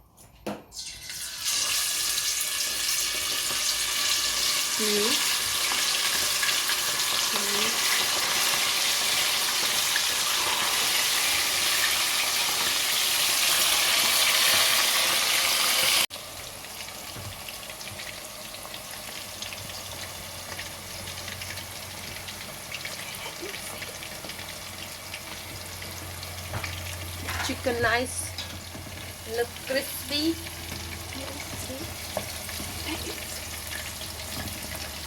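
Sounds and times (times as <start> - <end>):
chicken frying in hot oil: 0.8 - 35.0.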